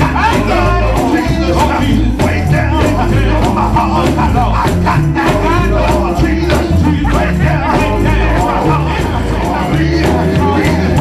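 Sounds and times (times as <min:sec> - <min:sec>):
deep bass line: 0:00.0 - 0:11.0
rhythmic percussion: 0:00.0 - 0:11.0
voices singing gospel: 0:00.0 - 0:11.0.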